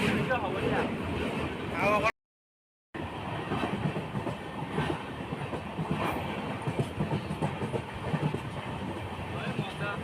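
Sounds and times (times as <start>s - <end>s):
train rumbling along track: 0.0s - 2.1s, 3.0s - 10.0s.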